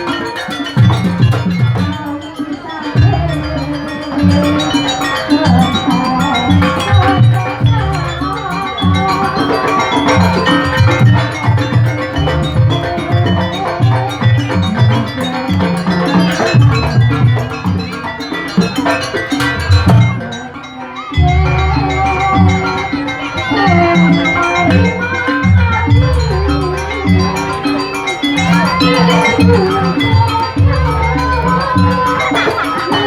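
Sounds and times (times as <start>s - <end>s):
hand drums: 0.0s - 33.0s
ringing metal gongs: 0.0s - 33.0s.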